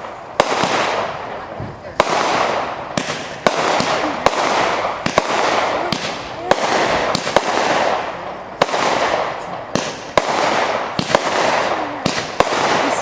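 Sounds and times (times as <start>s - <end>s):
firework shells bursting: 0.0s - 13.0s
rushing firework crackle: 0.0s - 13.0s.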